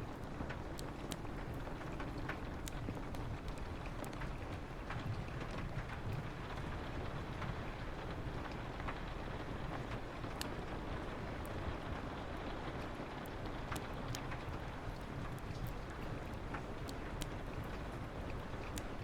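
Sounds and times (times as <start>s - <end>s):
rain on a window: 0.0s - 19.0s
wood fire crackling: 0.0s - 19.0s.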